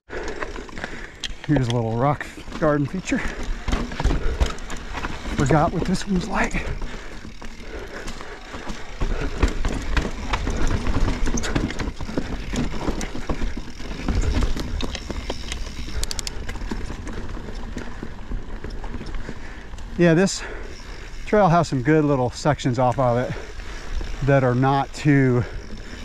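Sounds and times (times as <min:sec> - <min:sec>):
tyres rattling over rocks: 0:00.2 - 0:26.0.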